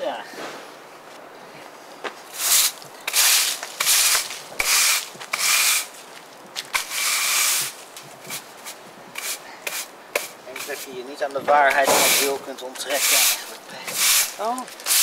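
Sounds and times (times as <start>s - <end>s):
broom sweeping paving: 2.0s - 15.0s.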